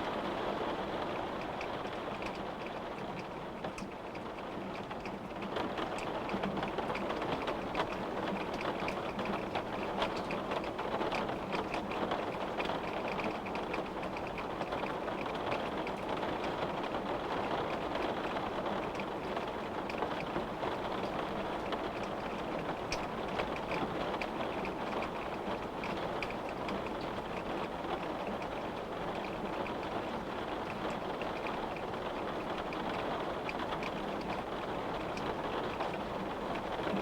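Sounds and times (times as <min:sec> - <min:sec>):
rain pattering on window: 0:00.0 - 0:37.0.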